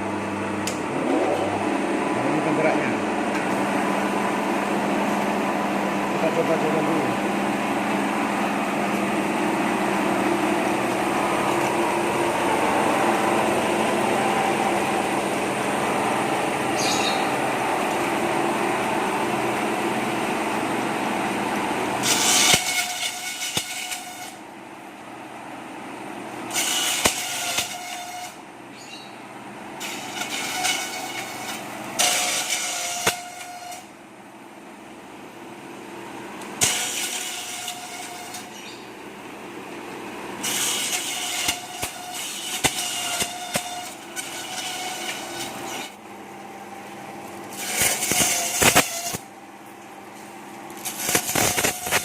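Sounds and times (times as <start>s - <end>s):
bamboo slicing machine running: 0.0s - 52.0s.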